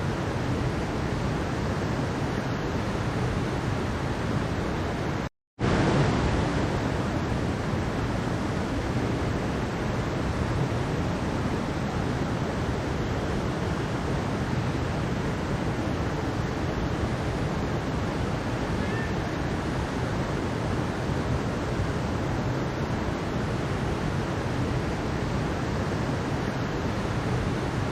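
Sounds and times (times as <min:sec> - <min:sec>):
stream water rushing: 0:00.0 - 0:27.9.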